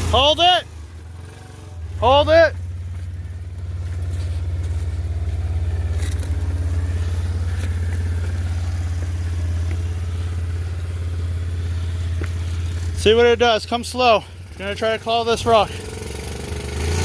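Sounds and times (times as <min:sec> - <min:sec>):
small engine humming: 0:00.8 - 0:13.0, 0:14.2 - 0:17.0.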